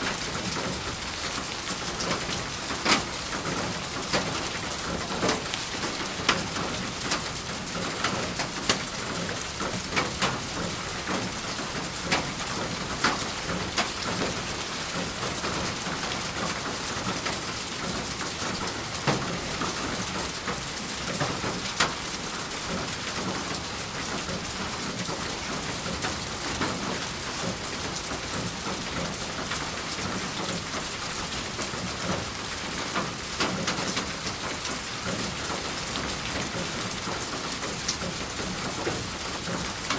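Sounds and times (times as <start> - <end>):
heavier raindrops striking: 0.0 - 39.9
steady rain hiss: 0.0 - 39.9.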